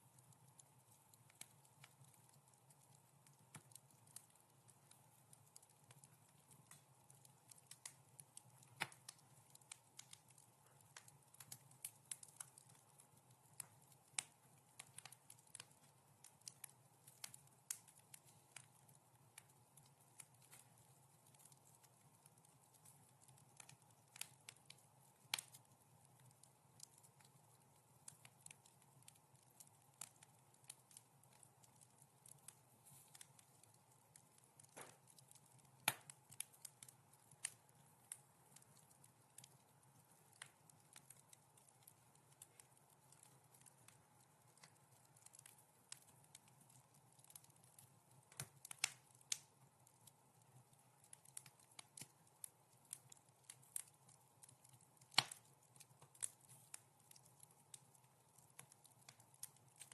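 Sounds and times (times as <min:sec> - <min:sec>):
faint steady hum: 0:00.0 - 0:59.9
wood fire crackling: 0:00.0 - 0:59.9.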